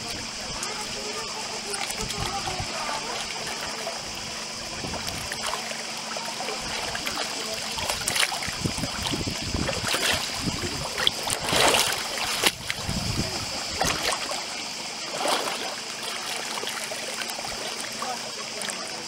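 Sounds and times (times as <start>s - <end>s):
seawater lapping against rocks: 0.0s - 19.0s.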